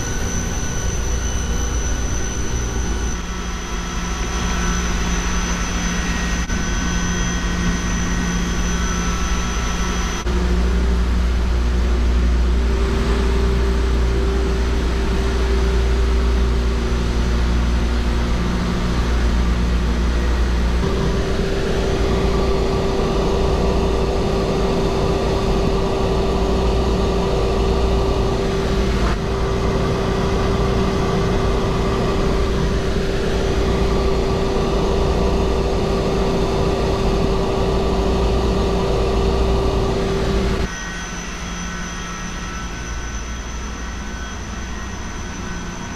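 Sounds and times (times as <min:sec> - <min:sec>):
engine room machinery rumble: 0:00.0 - 0:45.9
machinery whining tones: 0:00.0 - 0:45.9.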